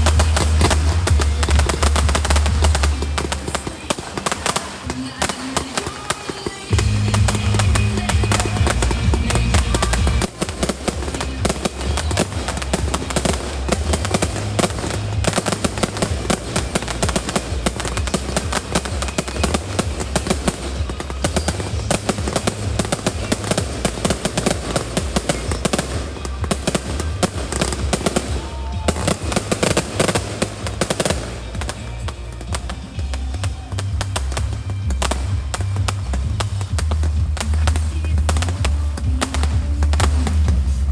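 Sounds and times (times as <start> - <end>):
fireworks crackling bangs: 0.0 - 40.9
music with heavy bass: 0.0 - 40.9.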